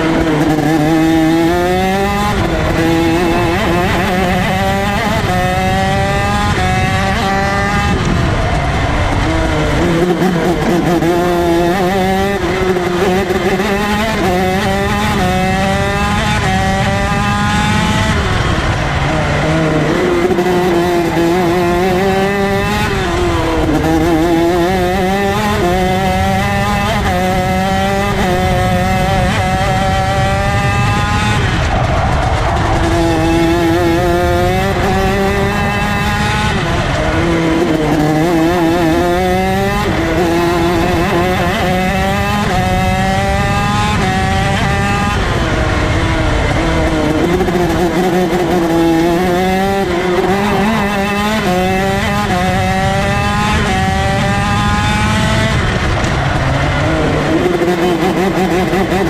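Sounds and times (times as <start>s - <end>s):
kart engine at racing speed: 0.0s - 59.0s.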